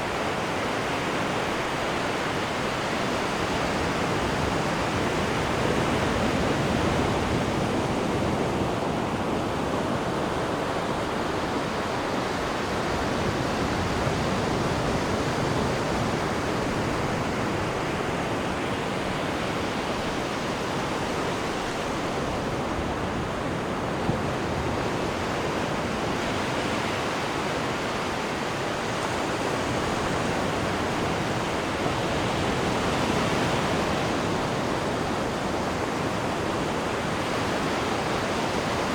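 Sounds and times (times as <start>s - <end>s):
sea water churning in wake: 0.0s - 38.9s.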